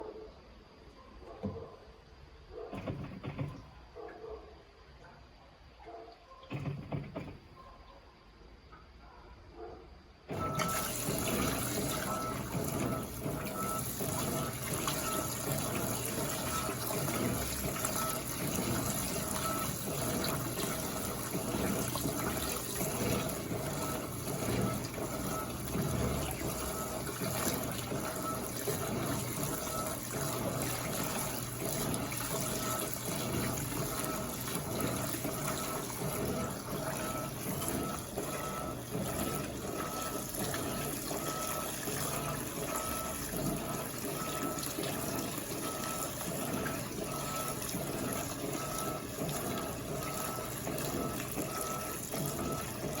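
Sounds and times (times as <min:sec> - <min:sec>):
washing machine filling with water: 0:02.7 - 0:03.8, 0:06.4 - 0:07.8, 0:10.2 - 0:53.0.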